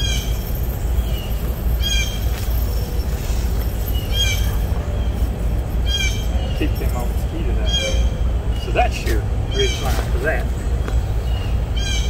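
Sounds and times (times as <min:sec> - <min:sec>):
bird calling: 0:00.0 - 0:12.0
steady low rumble: 0:00.0 - 0:12.0.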